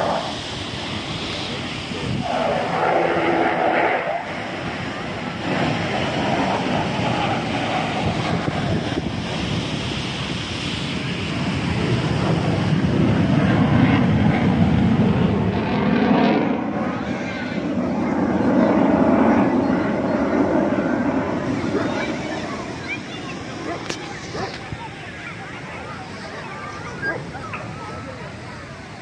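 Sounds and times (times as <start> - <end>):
jet engine rushing: 0.0 - 29.0
wind buffeting microphone: 0.0 - 29.0.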